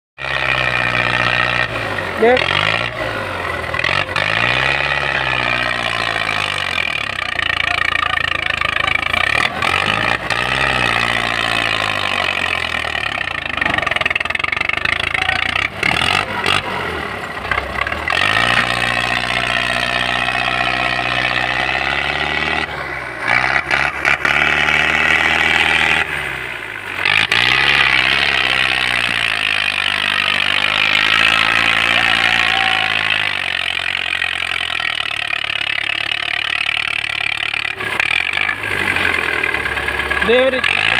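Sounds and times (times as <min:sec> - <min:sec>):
tractor diesel engine revving: 0:00.2 - 0:40.9.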